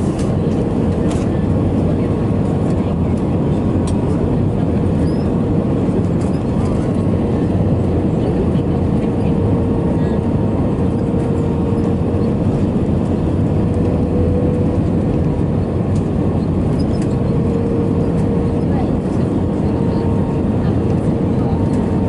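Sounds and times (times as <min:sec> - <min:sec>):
airliner cabin engine rumble: 0:00.0 - 0:22.0
constant hum: 0:00.0 - 0:22.0.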